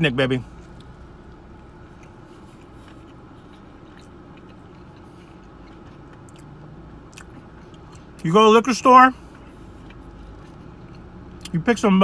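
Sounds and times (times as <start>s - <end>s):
low steady hum: 0.0s - 12.0s
man chewing: 0.6s - 8.2s, 9.2s - 11.6s.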